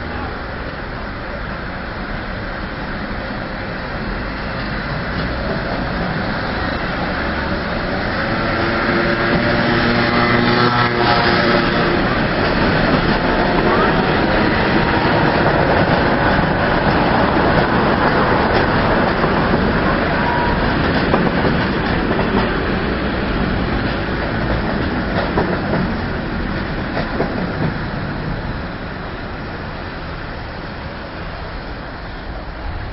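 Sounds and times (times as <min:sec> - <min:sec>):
train wheels clattering over rails: 0:02.9 - 0:30.8.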